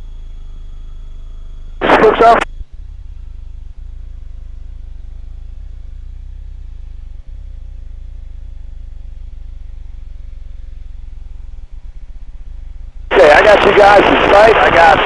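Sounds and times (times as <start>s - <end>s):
aircraft piston engine drone: 0.0s - 15.0s.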